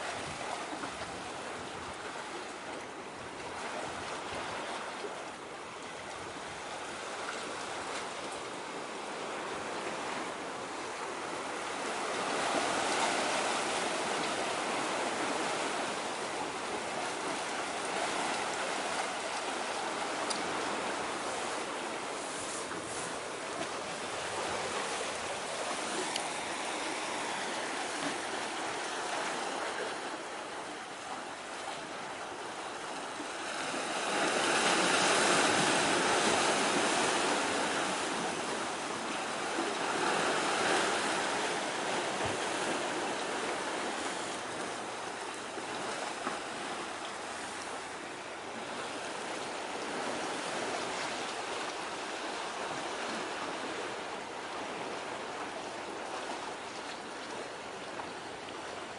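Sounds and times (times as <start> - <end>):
waves: 0.0 - 58.9
wind: 0.0 - 58.9.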